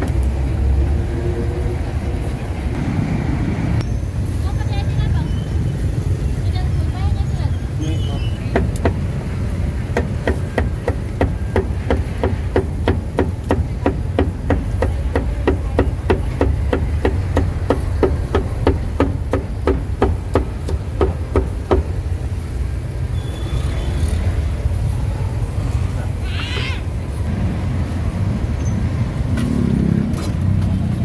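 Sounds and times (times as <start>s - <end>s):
low traffic rumble: 0.0s - 31.0s.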